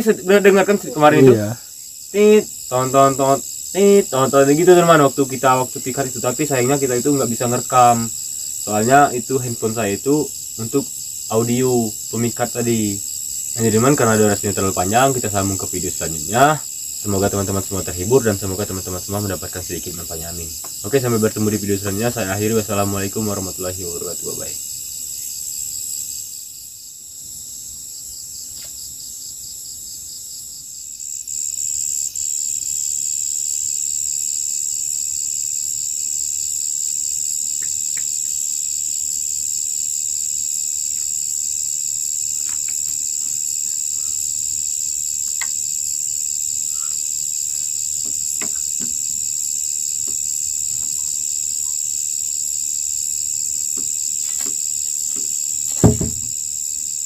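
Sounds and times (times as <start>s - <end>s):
night insects droning: 0.0s - 57.0s.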